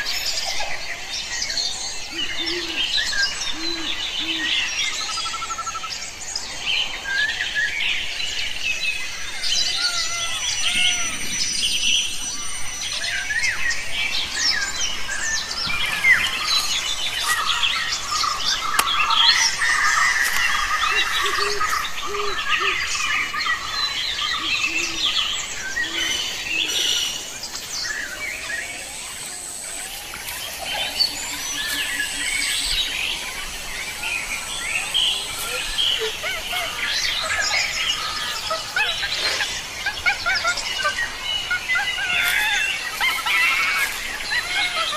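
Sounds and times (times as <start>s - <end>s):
many birds chirping: 0.0s - 44.9s.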